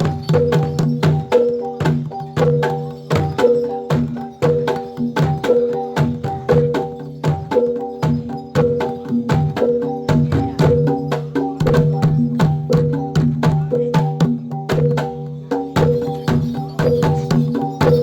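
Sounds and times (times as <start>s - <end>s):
drum beats: 0.0s - 18.0s.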